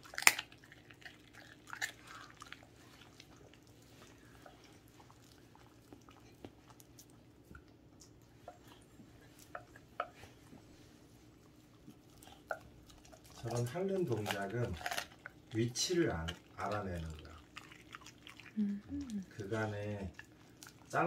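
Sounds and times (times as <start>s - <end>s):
dog licking and gnawing: 0.0s - 18.6s, 19.4s - 21.0s.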